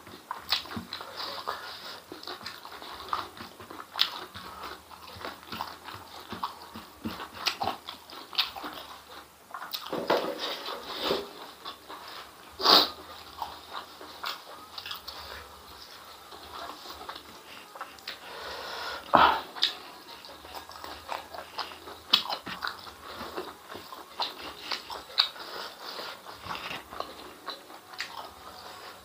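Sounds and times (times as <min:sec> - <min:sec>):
wet chewing and smacking: 0:00.0 - 0:18.3, 0:19.0 - 0:29.0.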